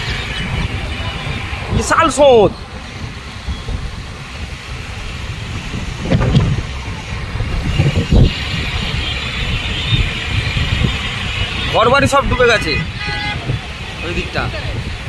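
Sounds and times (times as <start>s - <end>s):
vehicle and road noise: 0.0s - 15.0s
wind buffeting microphone: 0.0s - 15.0s.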